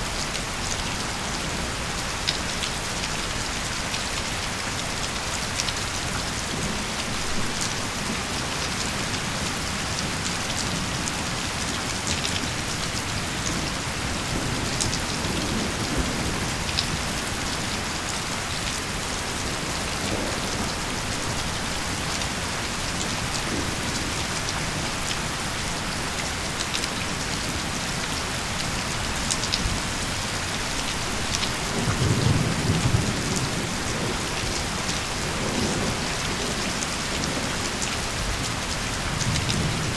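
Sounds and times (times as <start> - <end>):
steady rain pouring: 0.0 - 39.9
low rumble of thunder: 6.0 - 27.9, 28.7 - 39.9.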